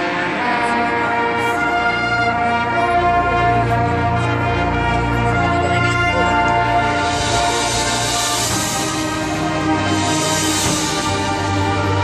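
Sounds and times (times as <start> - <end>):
brass band playing chords: 0.0 - 12.0
deep low brass note: 0.4 - 12.0.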